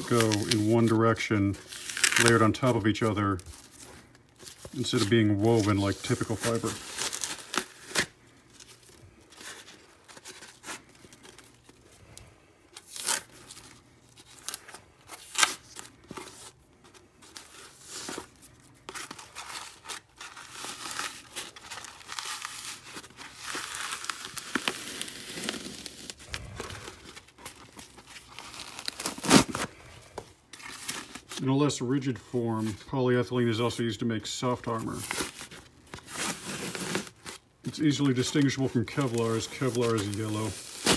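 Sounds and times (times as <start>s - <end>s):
plastic layers tearing: 0.0s - 16.4s, 18.9s - 29.7s, 34.8s - 40.9s
crinkling: 0.0s - 32.9s, 34.4s - 40.9s.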